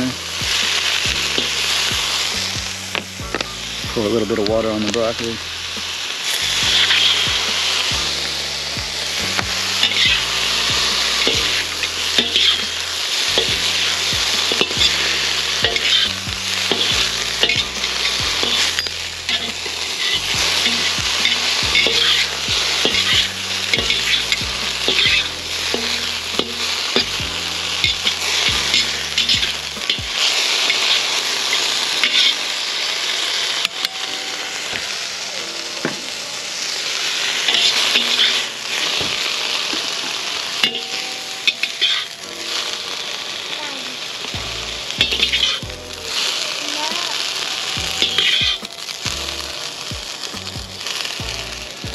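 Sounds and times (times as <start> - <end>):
broccoli sizzling in a wok: 0.0 - 51.9
metal spatula scraping a wok: 5.4 - 33.6, 36.8 - 42.8, 44.3 - 51.7.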